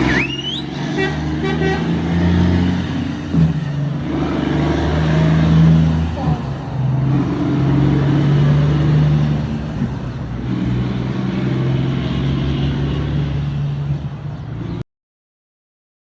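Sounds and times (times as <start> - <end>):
truck diesel engine rumbling: 0.0 - 14.8.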